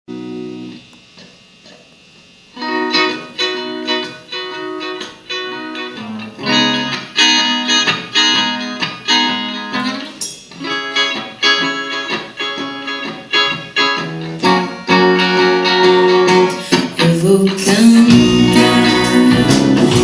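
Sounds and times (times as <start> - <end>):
guitar strumming chords: 0.1 - 20.0.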